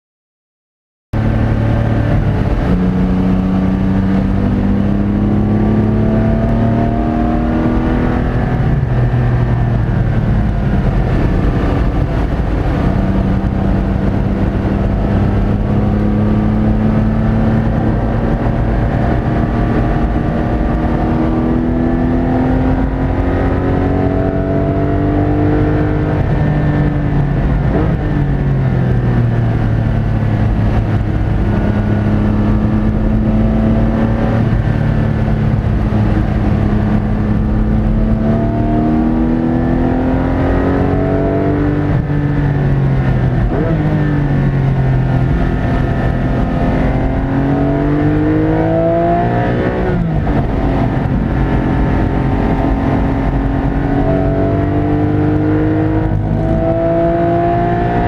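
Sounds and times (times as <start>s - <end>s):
car engine accelerating: 1.2s - 58.0s.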